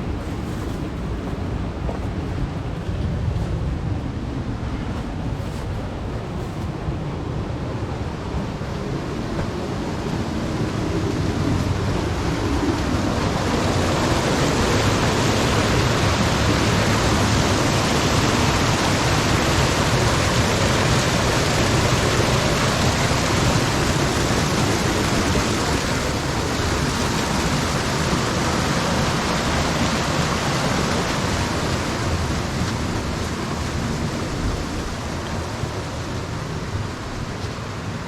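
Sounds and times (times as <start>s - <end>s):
creek water rushing over rocks: 5.0s - 38.0s.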